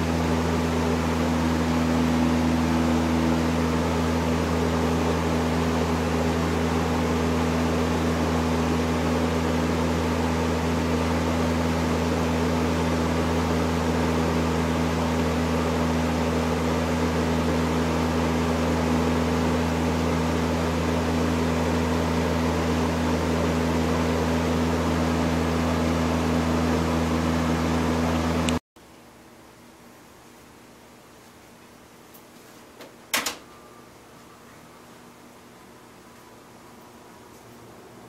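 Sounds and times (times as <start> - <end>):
box fan running: 0.0 - 38.0.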